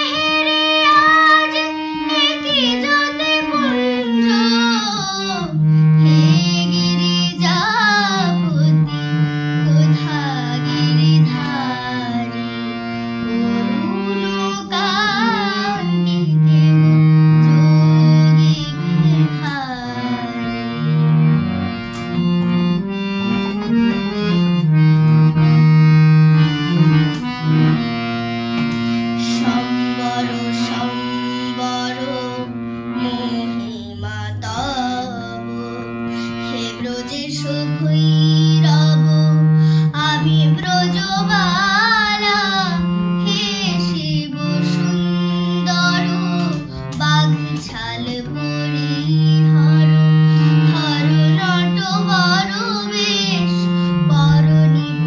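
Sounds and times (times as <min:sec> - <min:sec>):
girl singing: 0:00.0 - 0:21.4, 0:28.9 - 0:55.0
harmonium chords: 0:00.0 - 0:55.0.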